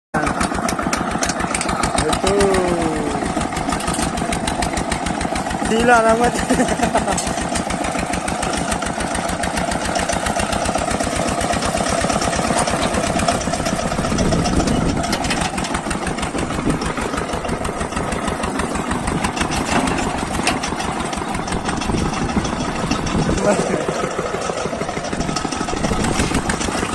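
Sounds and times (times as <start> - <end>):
truck engine running: 0.2 - 26.9.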